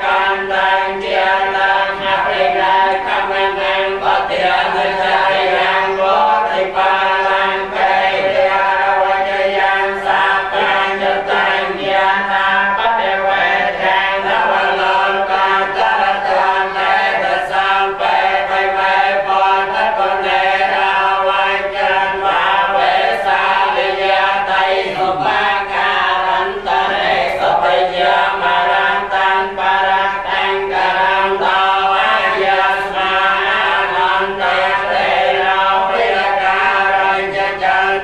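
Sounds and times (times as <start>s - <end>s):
men chanting in unison: 0.0s - 38.0s.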